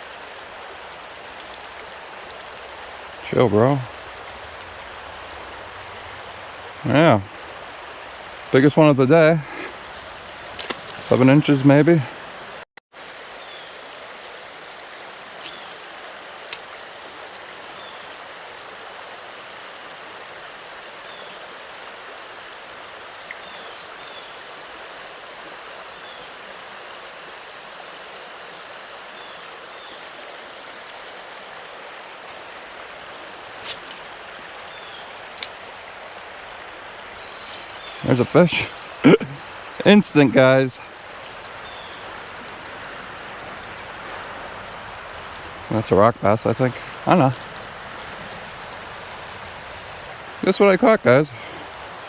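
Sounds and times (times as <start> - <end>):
creek water over rocks: 0.0 - 52.0.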